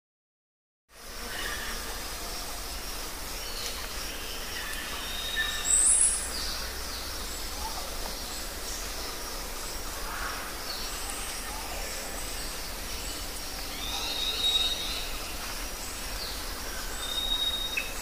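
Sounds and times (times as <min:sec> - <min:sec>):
steady hiss: 0:01.0 - 0:18.0.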